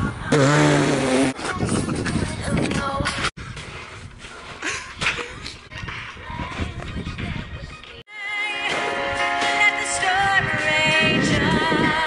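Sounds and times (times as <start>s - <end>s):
muffled background music: 1.7s - 12.0s.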